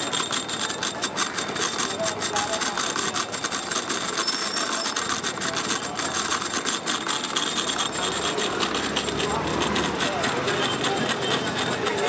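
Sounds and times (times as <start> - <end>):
cotton candy machine whirling: 0.0 - 12.0.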